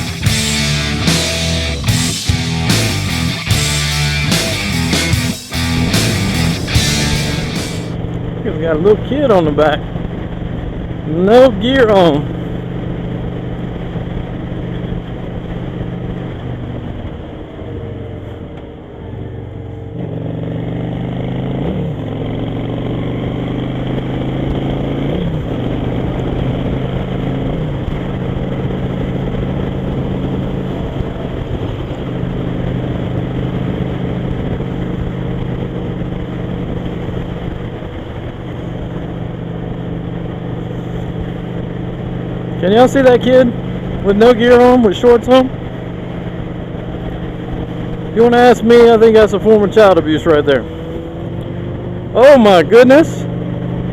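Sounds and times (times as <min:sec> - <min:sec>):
motorcycle engine running: 0:00.0 - 0:53.9
wind rumble: 0:00.0 - 0:53.9.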